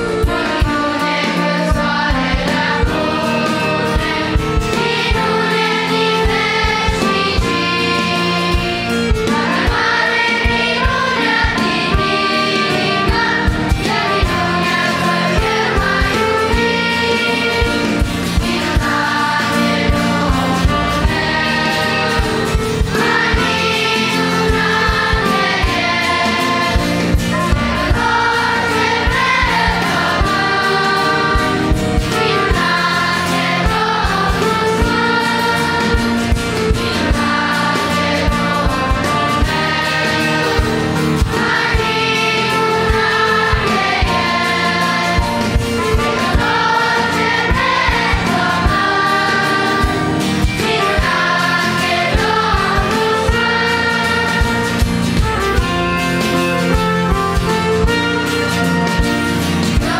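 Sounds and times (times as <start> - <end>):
accordion: 0.0 - 59.9
children's choir singing a hymn: 0.0 - 59.9
guitar: 0.0 - 59.9.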